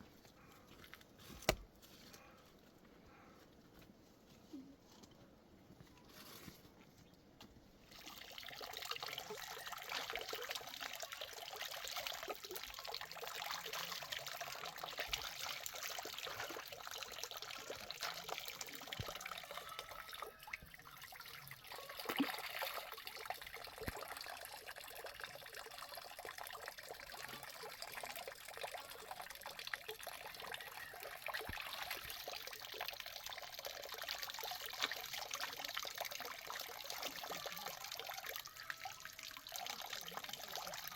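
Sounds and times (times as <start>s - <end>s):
water trickling: 7.8s - 40.9s.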